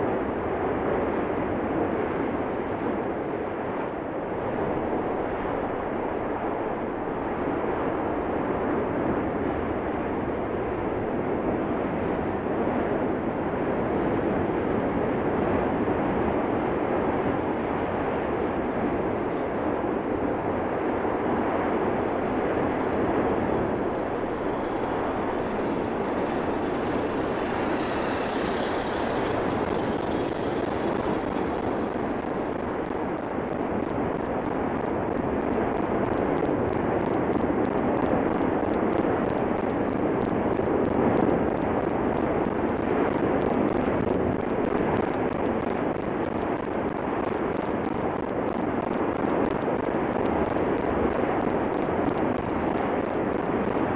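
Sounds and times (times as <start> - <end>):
volcanic eruption rushing roar: 4.4 - 53.9.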